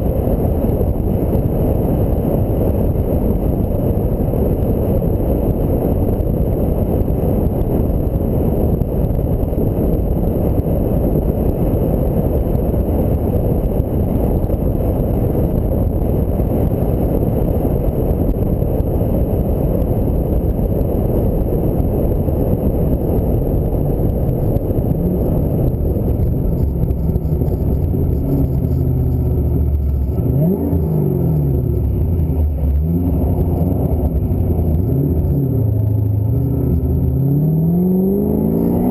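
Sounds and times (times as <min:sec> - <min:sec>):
car engine revving: 0:00.0 - 0:38.9
road and wind noise: 0:00.0 - 0:38.9.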